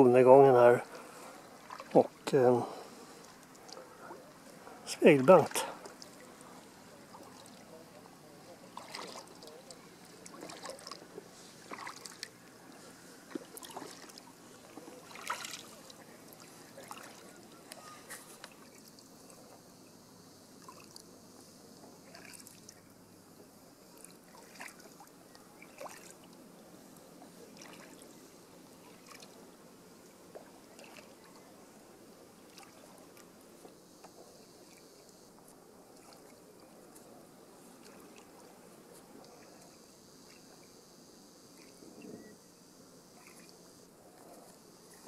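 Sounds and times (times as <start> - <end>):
paddles splashing in water: 0.8 - 19.6, 20.6 - 21.1, 21.9 - 22.9, 23.9 - 40.7, 43.1 - 45.0.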